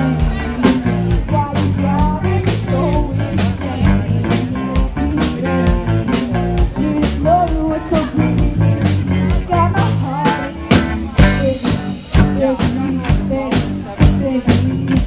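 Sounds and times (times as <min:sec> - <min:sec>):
bass guitar: 0:00.0 - 0:15.0
drum kit with cymbals: 0:00.0 - 0:15.0
electric guitar: 0:00.0 - 0:15.0
woman singing: 0:00.0 - 0:15.0.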